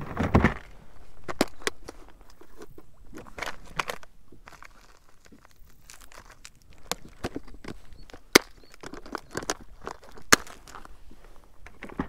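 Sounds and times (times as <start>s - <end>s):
plastic tackle box handled: 0.0s - 12.0s.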